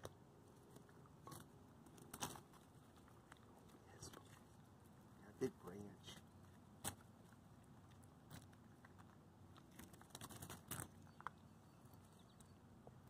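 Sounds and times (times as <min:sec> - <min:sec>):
puppies crunching dry kibble: 0:00.0 - 0:13.0.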